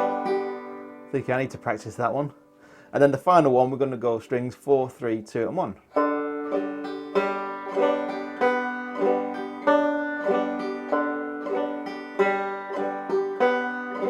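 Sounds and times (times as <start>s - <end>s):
banjo strumming: 0.0s - 4.2s, 5.4s - 14.0s.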